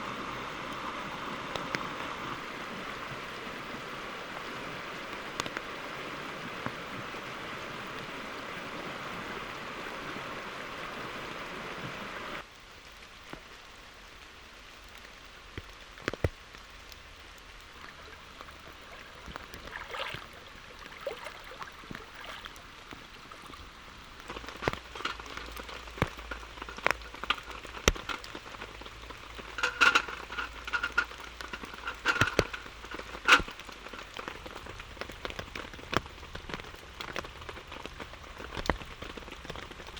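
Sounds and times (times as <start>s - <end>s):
rain hissing: 0.0s - 39.9s
raindrops tapping: 0.0s - 39.9s.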